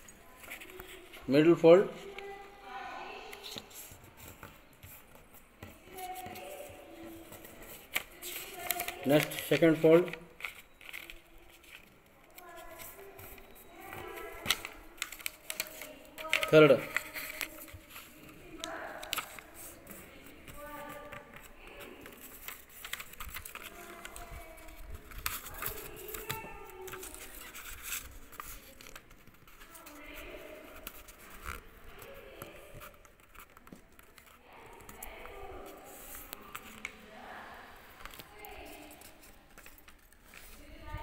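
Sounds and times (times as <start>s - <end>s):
paper rustling and crinkling: 0.0s - 1.3s, 2.0s - 41.0s.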